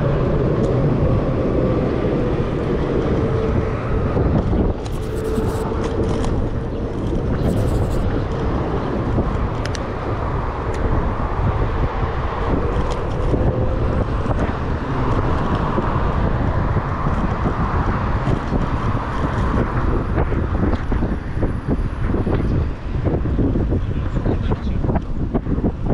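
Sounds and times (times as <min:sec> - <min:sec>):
city road traffic: 0:00.0 - 0:25.9
wind on microphone: 0:00.0 - 0:25.9.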